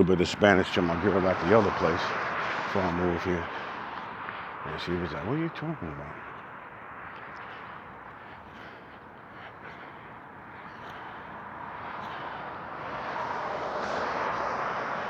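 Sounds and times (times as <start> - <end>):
traffic rush: 0.0 - 15.0
vehicle approaching: 0.0 - 15.0.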